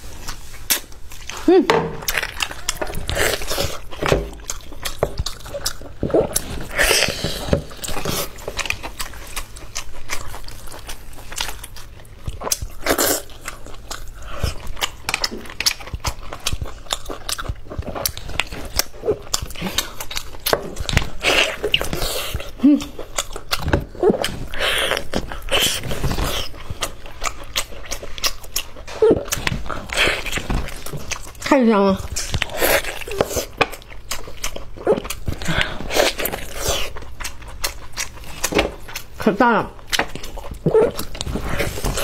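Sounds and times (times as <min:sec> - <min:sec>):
person chewing meat: 0:00.0 - 0:42.0.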